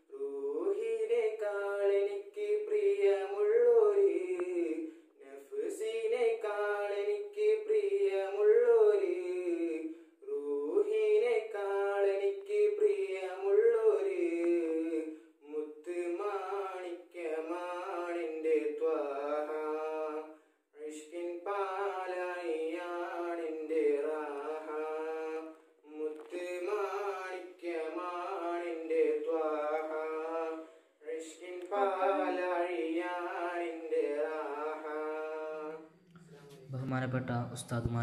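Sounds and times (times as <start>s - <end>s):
young man singing unaccompanied: 0.0s - 36.6s.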